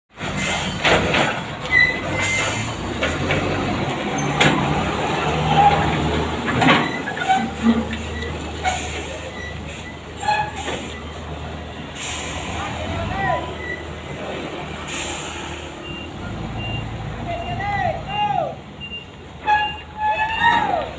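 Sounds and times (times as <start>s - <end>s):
truck engine hum: 0.1s - 20.9s.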